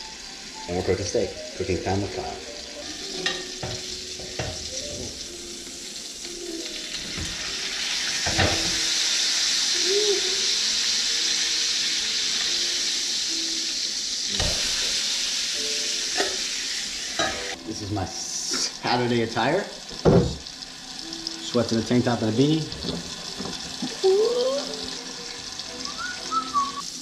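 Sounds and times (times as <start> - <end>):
steak sizzling in a skillet: 0.0 - 27.0.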